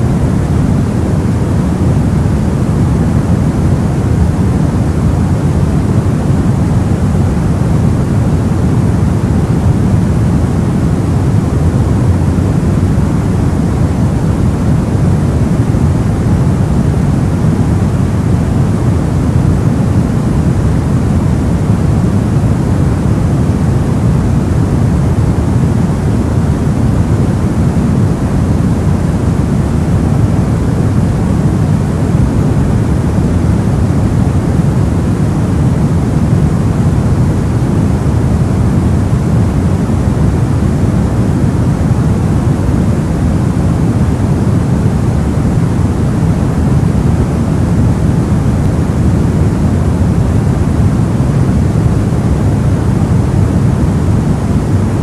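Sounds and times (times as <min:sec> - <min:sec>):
low white noise hiss: 0:00.0 - 0:55.0.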